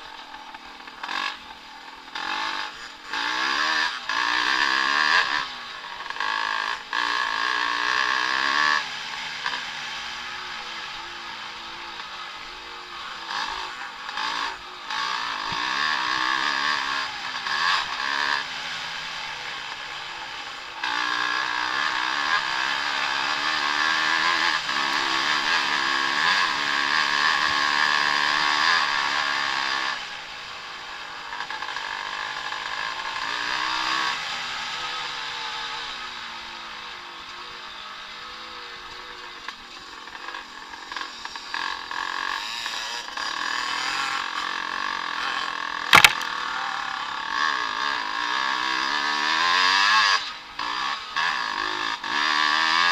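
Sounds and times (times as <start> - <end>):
motocross bikes revving: 0.0 - 52.9.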